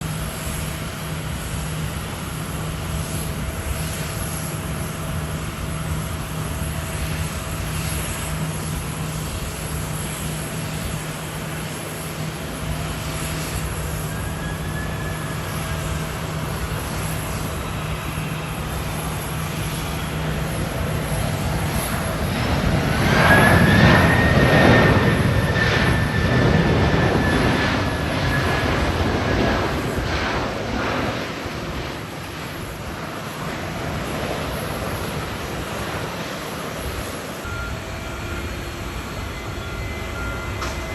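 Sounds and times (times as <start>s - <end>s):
airliner jet engines: 0.0s - 40.9s
high engine whine: 0.0s - 40.9s.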